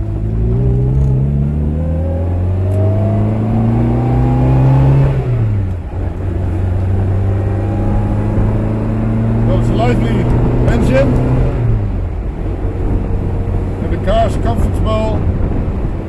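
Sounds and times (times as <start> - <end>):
car engine revving through gears: 0.0 - 16.0.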